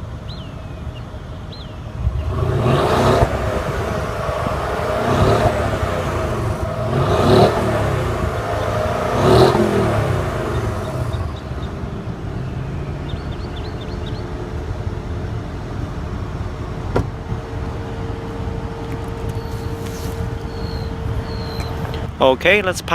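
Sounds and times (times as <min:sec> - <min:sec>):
car engine idling: 0:00.0 - 0:22.9
car engine revving: 0:01.6 - 0:22.9.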